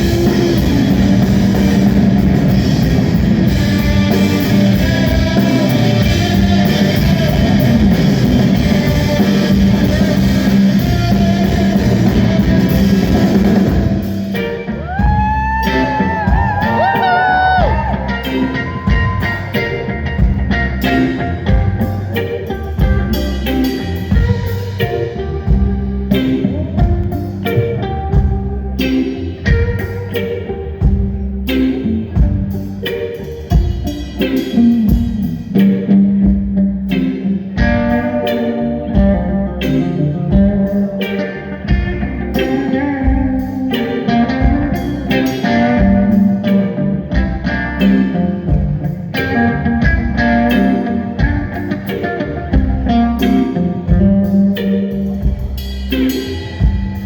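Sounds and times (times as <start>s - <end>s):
steady drum beat: 0.0s - 28.8s, 29.4s - 38.2s, 39.0s - 57.0s
bass line: 0.0s - 57.0s
electric guitar: 0.0s - 57.0s.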